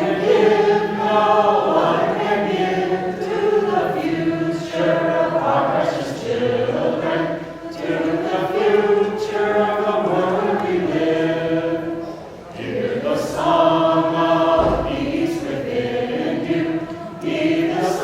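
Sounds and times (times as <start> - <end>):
vocal group singing in harmony: 0.0 - 18.0.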